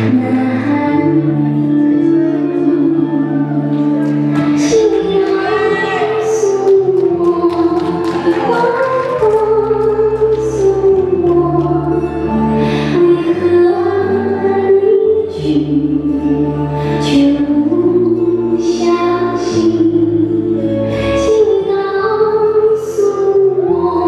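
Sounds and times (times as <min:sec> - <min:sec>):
ballroom dance song with singing: 0:00.0 - 0:24.0.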